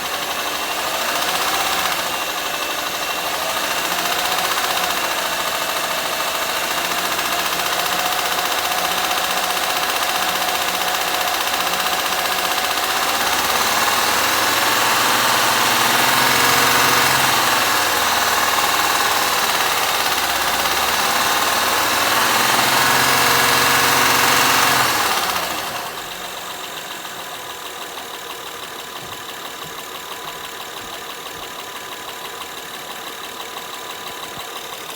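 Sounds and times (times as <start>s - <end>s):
car engine knocking and revving: 0.0s - 34.9s.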